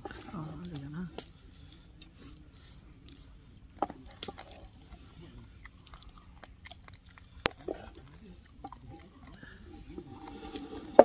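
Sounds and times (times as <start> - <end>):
person chewing and biting food: 1.2 - 10.9.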